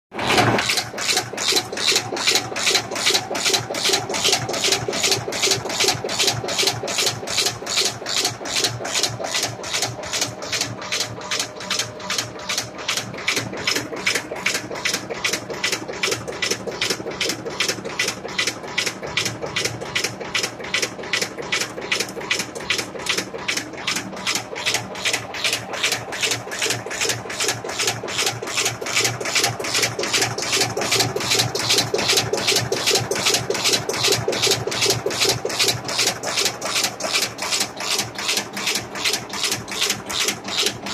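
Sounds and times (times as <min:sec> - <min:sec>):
screw making machine strokes: 0:00.6 - 0:40.9.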